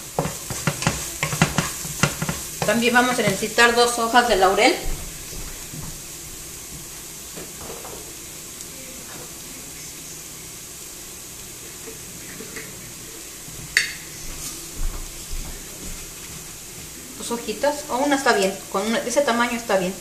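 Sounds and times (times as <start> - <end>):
onion and garlic sizzling: 0.0 - 20.0.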